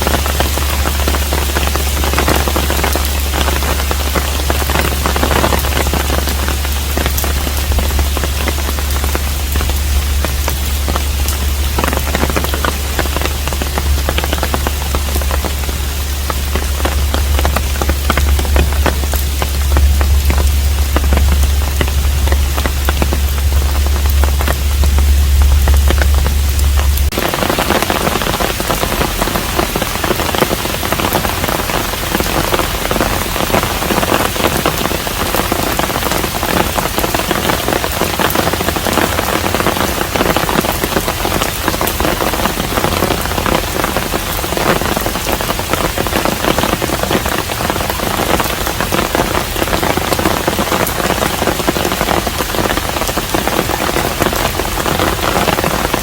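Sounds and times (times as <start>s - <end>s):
low steady hum: 0.0s - 56.0s
rain patter on a roof: 0.0s - 56.0s.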